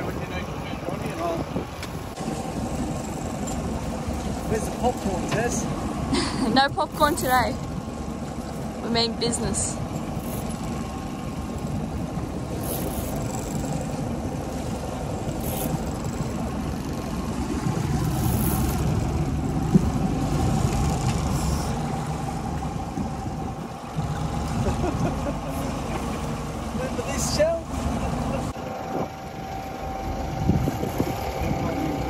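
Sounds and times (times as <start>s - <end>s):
boat engine running: 0.0s - 32.0s
water noise: 0.0s - 32.0s
wind: 0.0s - 32.0s.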